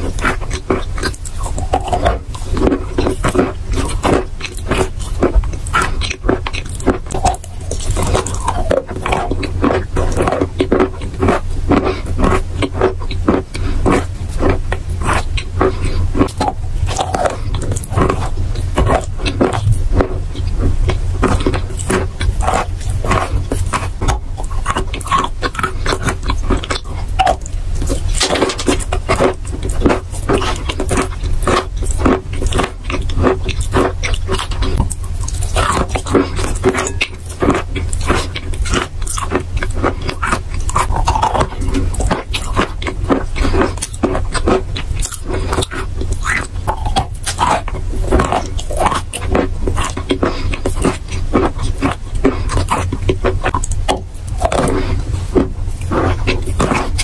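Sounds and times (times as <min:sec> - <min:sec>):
chalk crunching while chewed: 0:00.0 - 0:57.0
steady low hum: 0:00.0 - 0:57.0
wet mouth sounds: 0:00.0 - 0:57.0.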